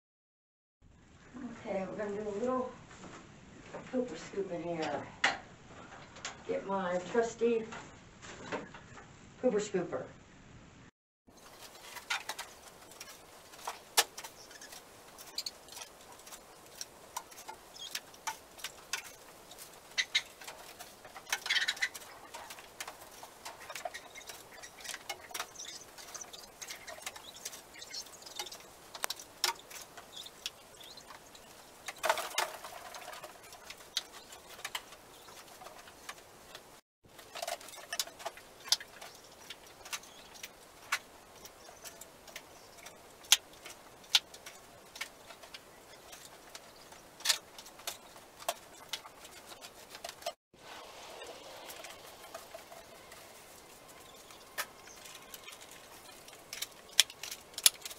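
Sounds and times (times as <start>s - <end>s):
scooper scraping wood shavings: 11.3s - 57.9s.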